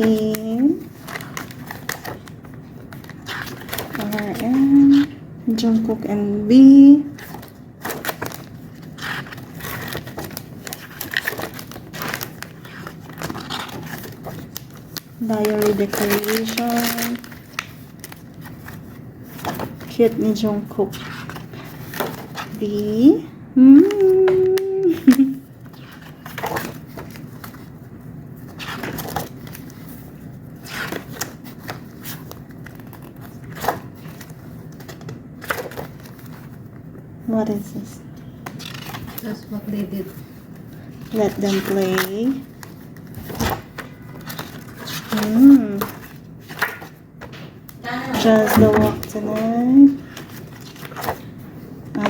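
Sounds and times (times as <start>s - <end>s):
paper and plastic crinkling: 0.0s - 23.2s, 23.8s - 52.0s
low room hum: 0.0s - 52.0s.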